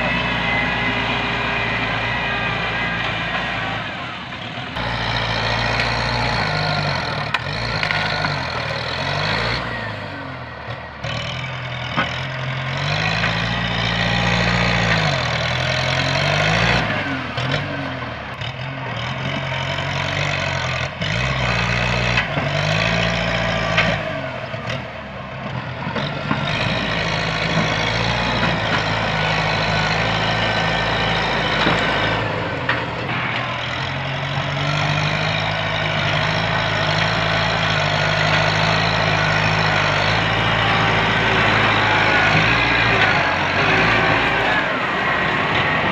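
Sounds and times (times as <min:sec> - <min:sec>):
bulldozer diesel engine revving: 0:00.0 - 0:45.9.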